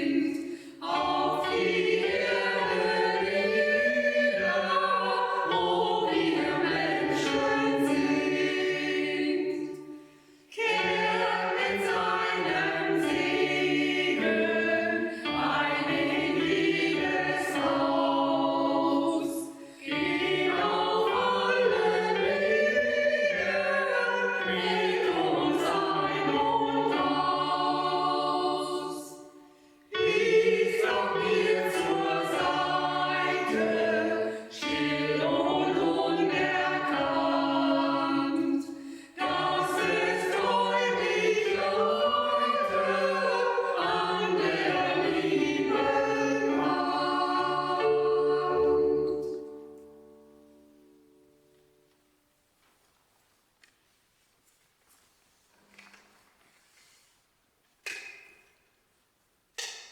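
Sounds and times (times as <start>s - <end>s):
choir singing: 0.0s - 51.8s.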